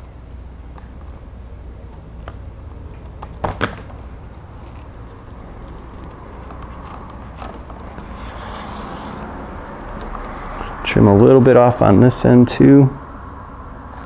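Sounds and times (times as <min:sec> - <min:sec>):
low room hum and hiss: 0:00.0 - 0:14.0.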